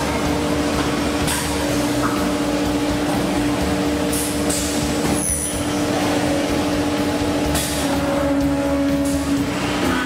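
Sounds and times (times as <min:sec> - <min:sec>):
workshop machinery droning: 0:00.0 - 0:10.0.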